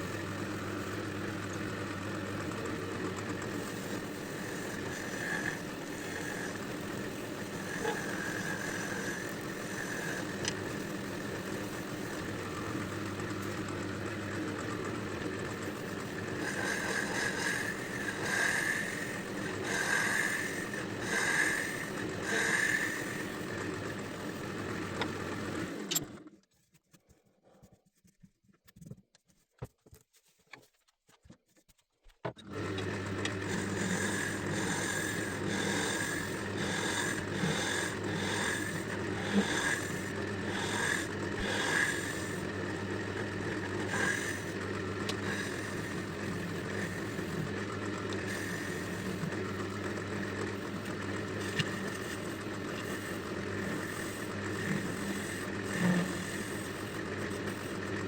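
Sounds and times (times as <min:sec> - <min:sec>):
turning tool scraping: 0:00.0 - 0:26.2, 0:32.4 - 0:58.0
wood lathe motor hum: 0:00.0 - 0:26.3, 0:32.4 - 0:58.0.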